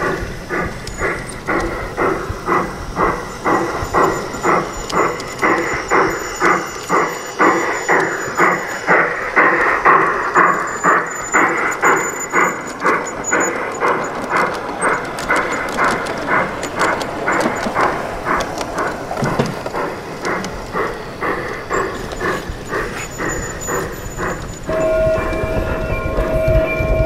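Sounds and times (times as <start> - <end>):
model steam train running on track: 0.0 - 27.0.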